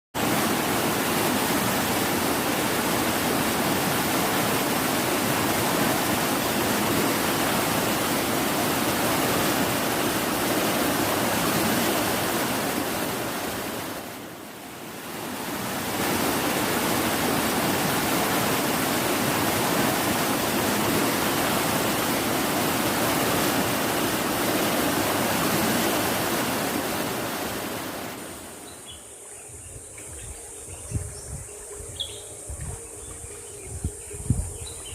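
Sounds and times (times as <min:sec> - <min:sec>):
fast-flowing water rushing: 0:00.2 - 0:28.6.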